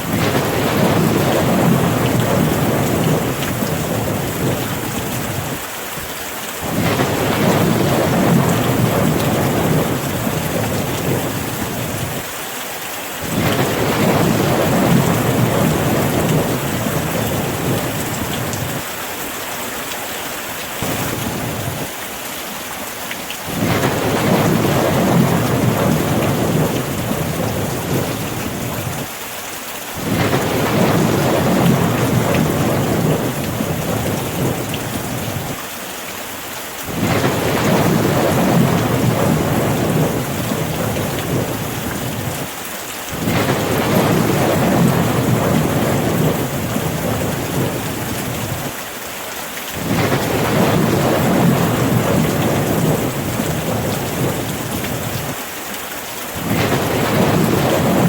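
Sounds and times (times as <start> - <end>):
distant thunder rumbling: 0.0 - 5.6, 6.6 - 12.3, 13.2 - 18.8, 20.8 - 21.9, 23.4 - 29.1, 30.0 - 35.6, 36.9 - 42.5, 43.2 - 48.7, 49.8 - 55.4, 56.4 - 58.0
steady rain: 0.0 - 58.0.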